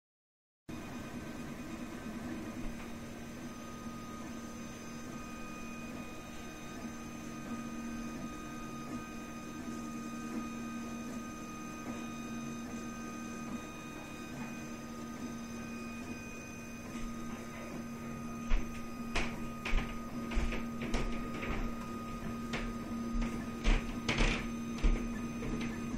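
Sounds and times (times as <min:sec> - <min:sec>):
printer low hum: 0:00.7 - 0:25.9.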